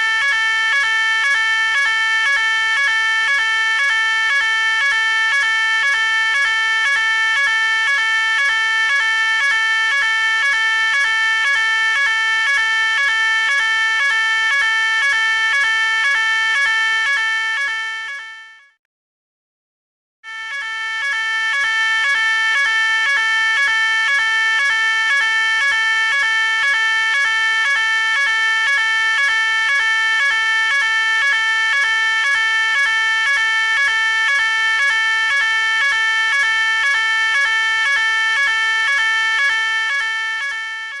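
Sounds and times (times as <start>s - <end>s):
fire alarm two-tone warble: 0.0s - 18.8s, 20.2s - 41.0s.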